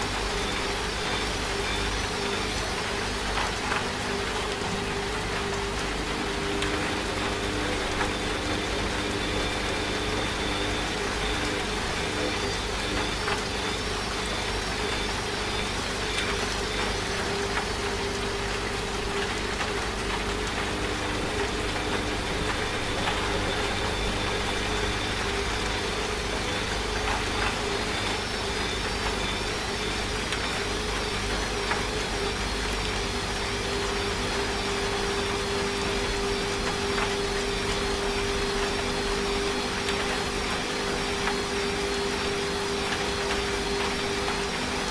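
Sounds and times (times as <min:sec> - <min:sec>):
rain hiss: 0:00.0 - 0:44.9
washing machine humming: 0:00.0 - 0:44.9.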